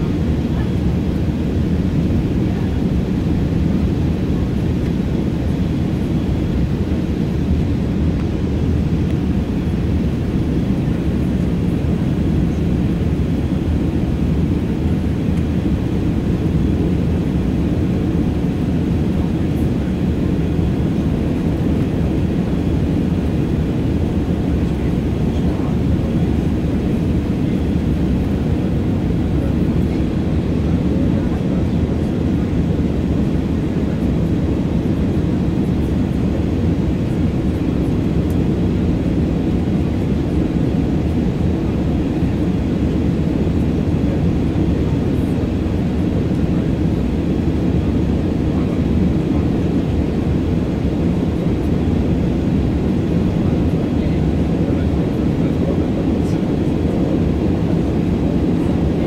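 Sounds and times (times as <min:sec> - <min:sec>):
airflow over fuselage: 0:00.0 - 0:59.0
jet engines at climb power: 0:00.0 - 0:59.0.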